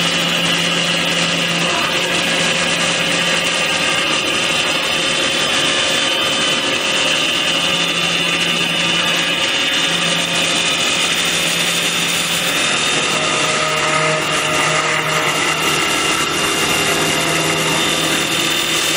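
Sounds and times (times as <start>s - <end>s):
wood lathe cutting: 0.0s - 18.9s.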